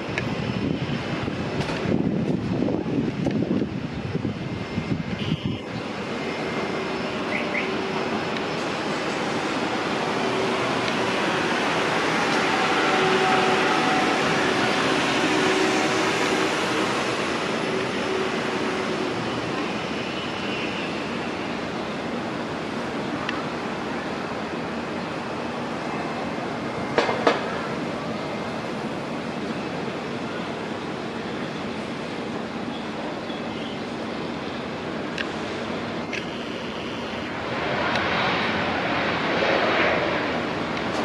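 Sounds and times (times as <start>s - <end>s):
airliner engines roaring: 0.0s - 41.0s.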